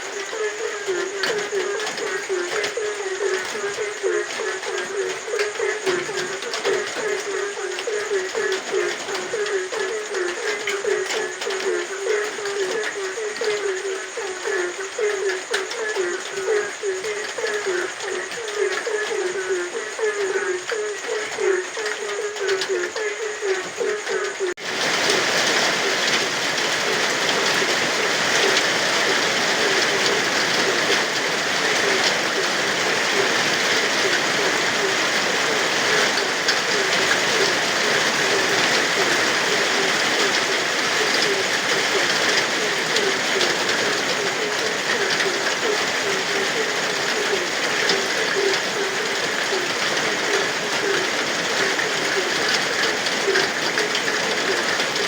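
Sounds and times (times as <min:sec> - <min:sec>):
frogs croaking: 0:00.0 - 0:55.0
heavy rain: 0:00.0 - 0:55.0.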